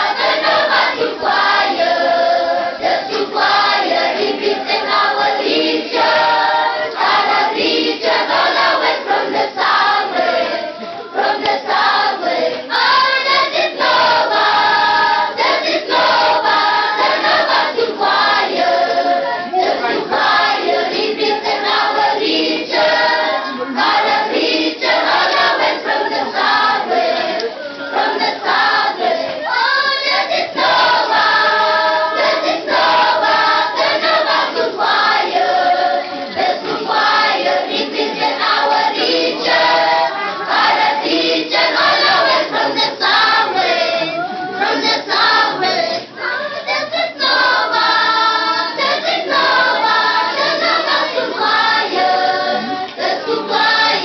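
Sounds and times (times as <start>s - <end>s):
children's choir singing a hymn: 0.0s - 54.0s.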